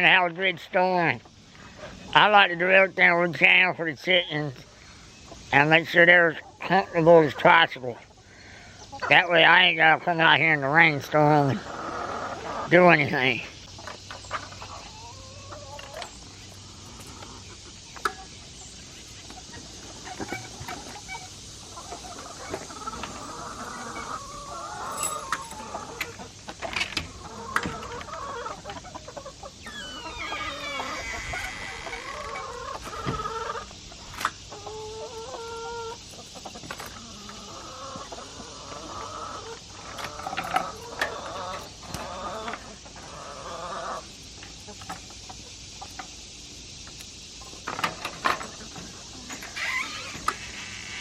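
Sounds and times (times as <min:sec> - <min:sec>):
hens clucking and calling: 0:00.0 - 0:51.0.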